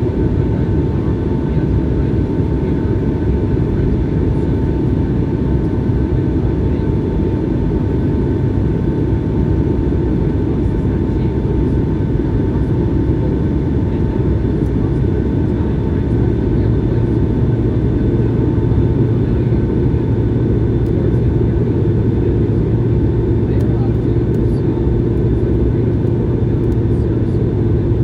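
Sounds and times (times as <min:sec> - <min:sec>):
airflow over fuselage: 0:01.3 - 0:28.0.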